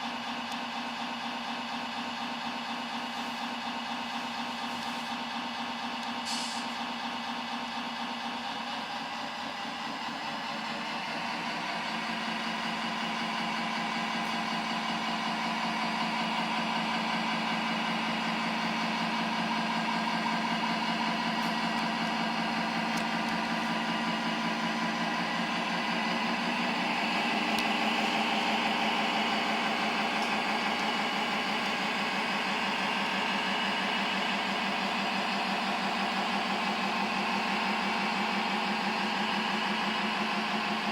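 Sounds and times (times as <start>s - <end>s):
simulated truck engine through small speaker: 0.0s - 40.9s.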